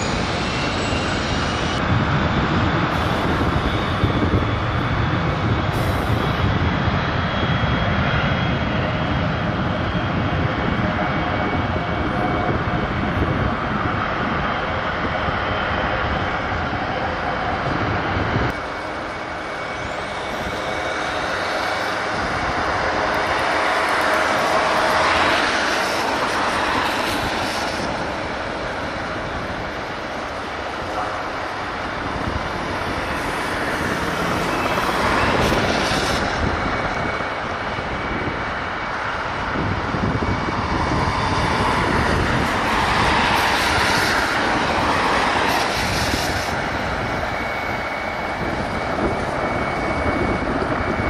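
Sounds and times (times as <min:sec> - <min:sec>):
jet engines whining: 0:00.0 - 0:51.0.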